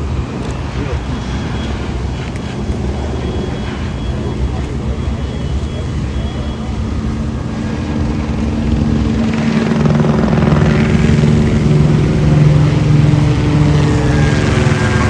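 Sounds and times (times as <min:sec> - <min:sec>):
loud engine drone: 0:00.0 - 0:15.0.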